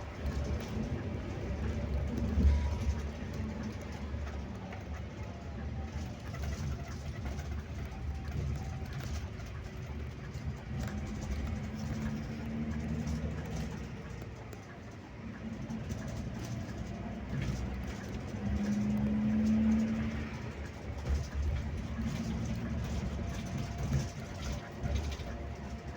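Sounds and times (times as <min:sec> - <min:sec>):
bus engine and road rumble: 0:00.0 - 0:25.9.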